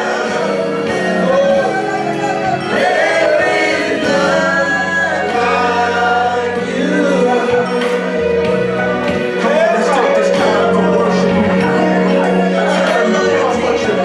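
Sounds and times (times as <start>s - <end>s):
gospel worship singing: 0.0s - 14.0s
instrumental accompaniment: 0.0s - 14.0s.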